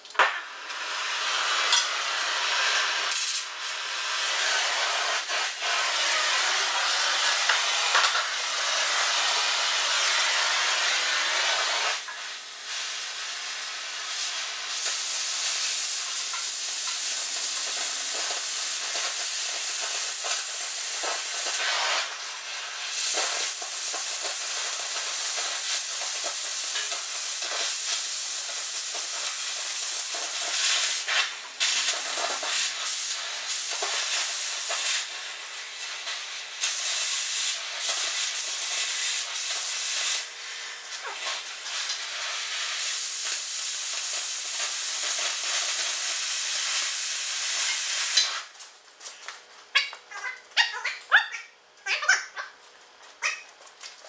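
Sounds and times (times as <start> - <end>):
cutting torch hissing: 0.6 - 48.5.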